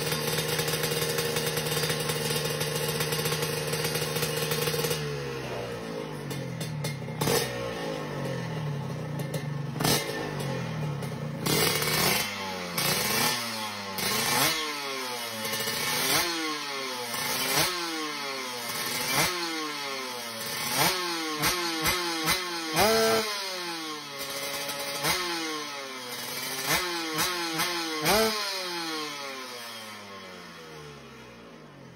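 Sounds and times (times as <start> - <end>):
two-stroke engine revving: 0.0 - 31.9.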